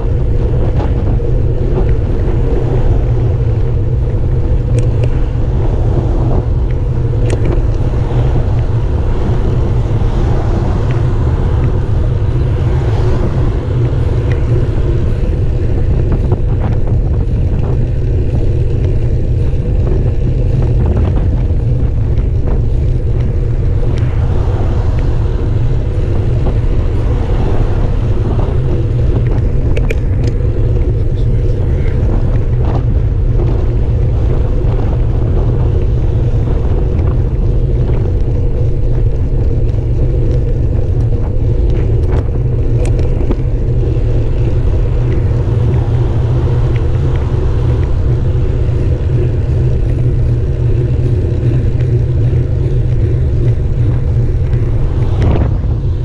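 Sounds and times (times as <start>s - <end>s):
wind and road noise rumble: 0.0s - 56.0s.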